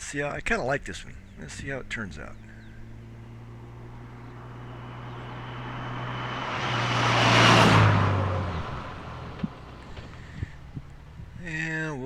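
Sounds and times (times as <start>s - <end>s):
vehicle passing by: 1.1s - 11.4s.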